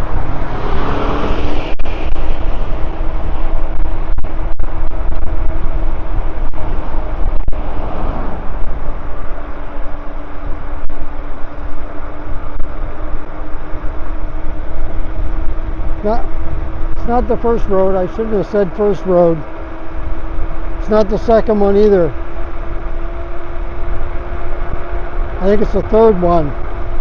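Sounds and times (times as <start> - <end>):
passing car: 0.0 - 27.0
road noise: 0.0 - 27.0
steady hum: 0.0 - 27.0
wind rushing over microphone: 0.0 - 27.0.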